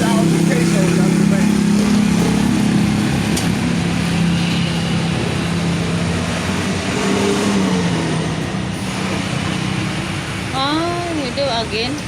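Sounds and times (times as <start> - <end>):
road and wind noise: 0.0 - 12.0
vehicle engine running: 0.0 - 12.0.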